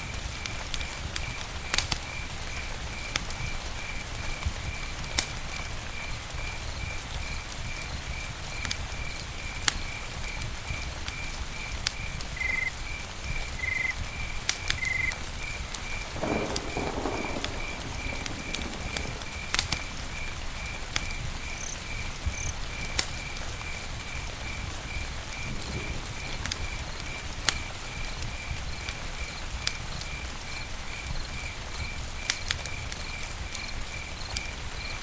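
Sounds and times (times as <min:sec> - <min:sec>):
campfire crackling and popping: 0:00.0 - 0:35.0
insect chirping: 0:01.2 - 0:35.0.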